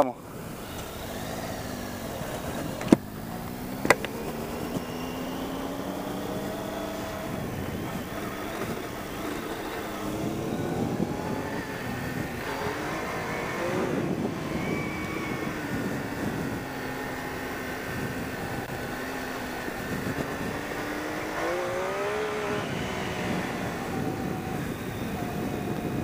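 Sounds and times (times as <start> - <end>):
motorcycle engine accelerating: 0.0 - 26.0
wind and tyre noise: 0.0 - 26.0.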